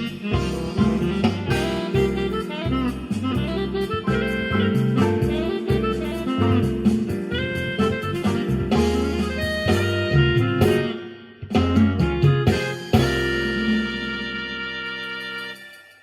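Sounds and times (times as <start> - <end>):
walking bass line: 0.0 - 14.5
drums: 0.0 - 16.0
keyboard jazz piece with saxophone: 0.0 - 16.0.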